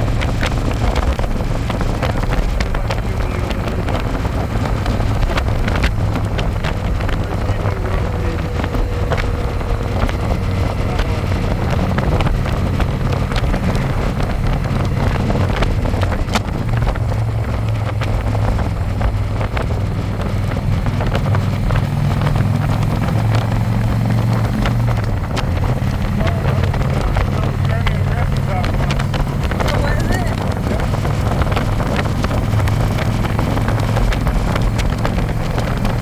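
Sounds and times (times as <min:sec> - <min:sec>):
motorcycle engine running: 0:00.0 - 0:36.0
wind on microphone: 0:00.0 - 0:36.0.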